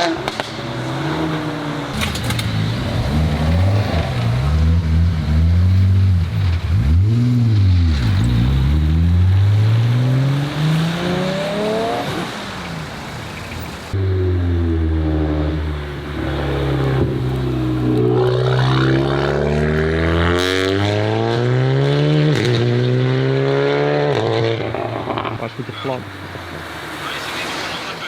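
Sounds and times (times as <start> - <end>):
car engines accelerating hard: 0.0 - 28.0
car pulling away with rising revs: 0.0 - 28.0.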